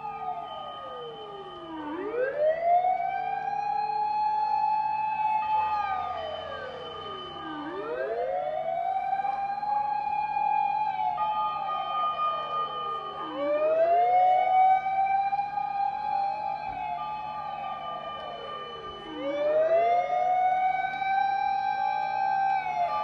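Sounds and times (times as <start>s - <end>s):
fire engine sirens wailing: 0.0s - 23.0s.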